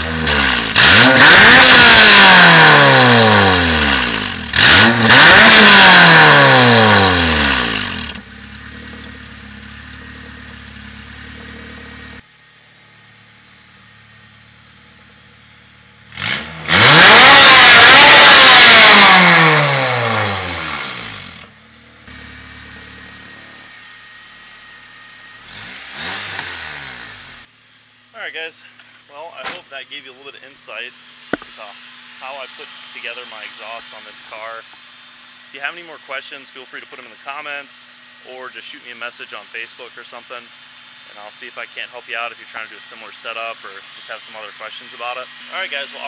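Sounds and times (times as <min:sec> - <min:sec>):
car engine revving: 0:00.0 - 0:28.9, 0:29.7 - 0:46.0
car engine idling: 0:06.2 - 0:46.0.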